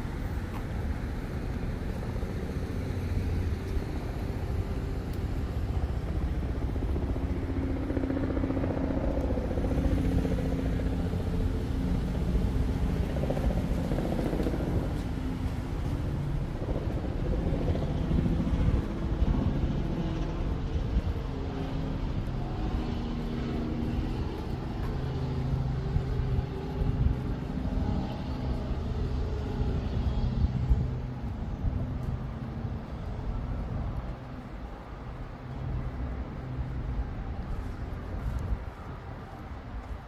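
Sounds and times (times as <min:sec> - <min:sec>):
street traffic rumble: 0:00.0 - 0:40.0.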